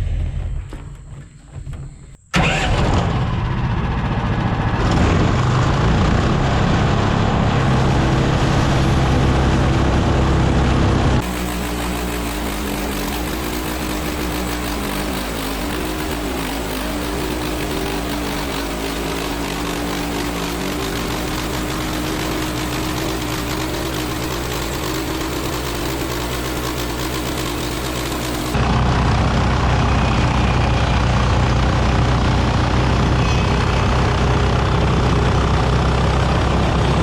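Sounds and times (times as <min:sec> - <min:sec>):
sawmill engine running under load: 0:02.4 - 0:37.0.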